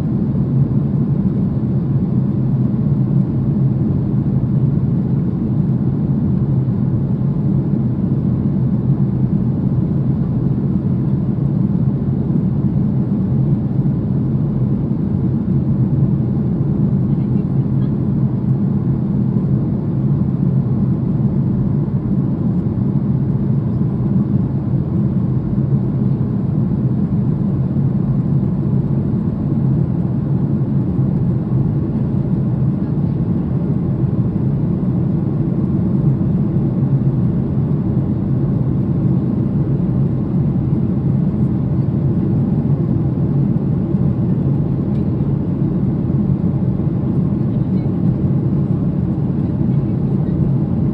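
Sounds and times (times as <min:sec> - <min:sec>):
airplane cabin drone: 0:00.0 - 0:50.9.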